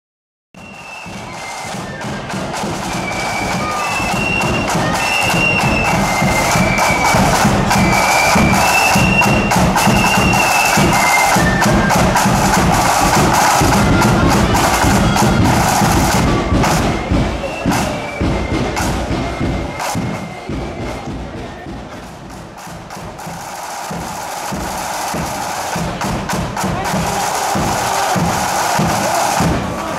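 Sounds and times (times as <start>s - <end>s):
shrill flute melody: 0.6s - 29.9s
side drums: 0.6s - 29.9s
booming bass drum: 1.1s - 29.9s.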